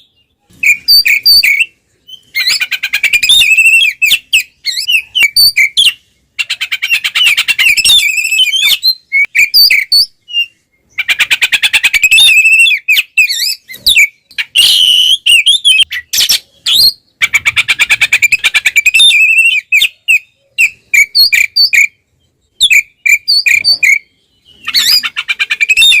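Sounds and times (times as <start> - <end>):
magpie-robin singing: 0.0 - 26.0.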